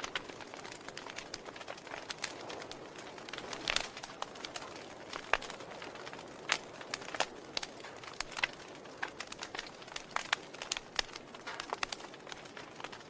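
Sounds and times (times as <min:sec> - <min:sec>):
fire popping and snapping: 0:00.0 - 0:13.0
soft fire hiss: 0:00.0 - 0:13.0.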